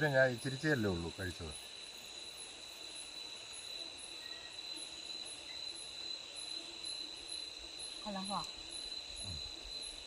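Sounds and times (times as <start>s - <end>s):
crickets trilling: 0.0s - 10.0s
high insect chirp: 0.0s - 10.0s.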